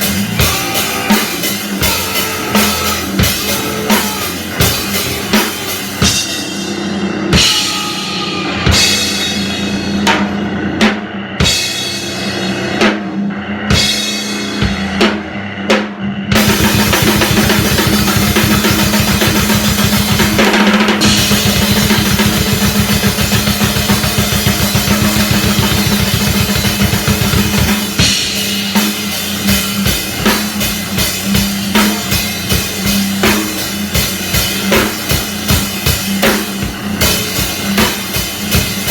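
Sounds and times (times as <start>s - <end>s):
fast blast-beat drums: 0.0s - 38.9s
loud raw live band: 0.0s - 38.9s.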